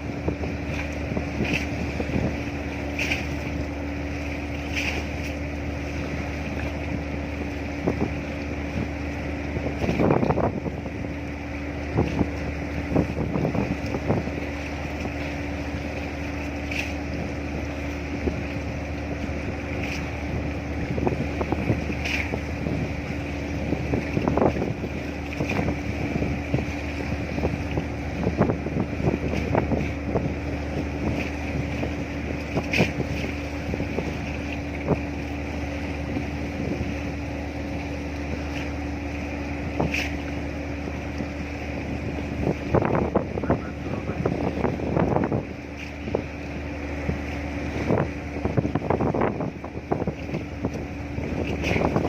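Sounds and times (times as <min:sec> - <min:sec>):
boat engine humming: 0:00.0 - 0:52.0
wind buffeting microphone: 0:00.0 - 0:52.0.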